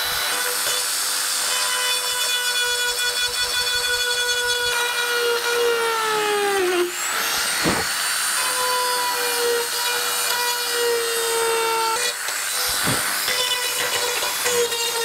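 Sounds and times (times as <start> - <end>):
rotary tool grinding fibreglass: 0.0 - 15.0.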